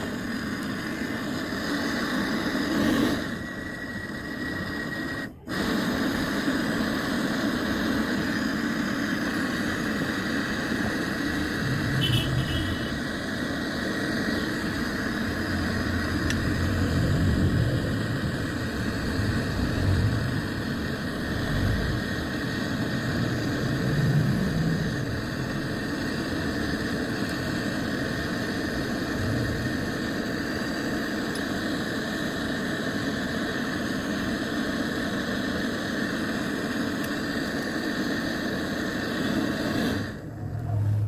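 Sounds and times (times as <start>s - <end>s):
motor-driven machine humming: 0.0s - 33.1s.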